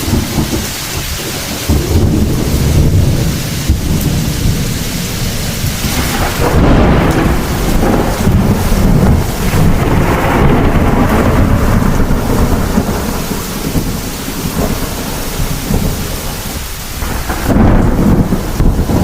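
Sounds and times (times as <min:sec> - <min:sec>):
heavy rain: 0:00.0 - 0:19.0
rolling thunder: 0:00.0 - 0:19.0.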